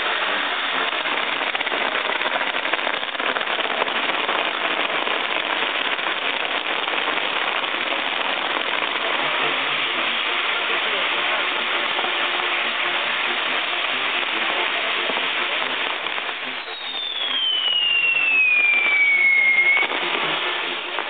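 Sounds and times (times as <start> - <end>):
fireworks hissing and crackling: 0.0 - 21.0.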